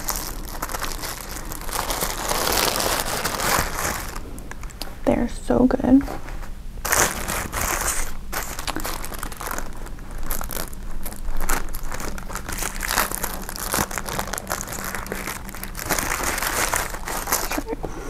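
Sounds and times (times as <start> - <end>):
food wrapping crinkling: 0.0 - 4.9, 6.3 - 17.8.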